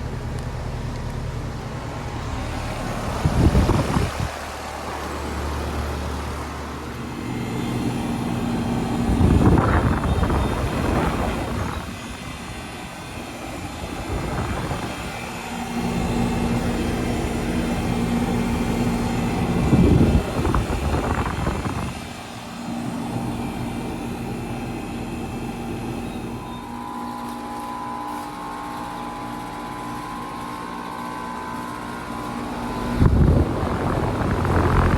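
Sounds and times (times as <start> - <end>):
compressor hum: 0.0 - 34.9
condenser fan whooshing: 0.0 - 34.9.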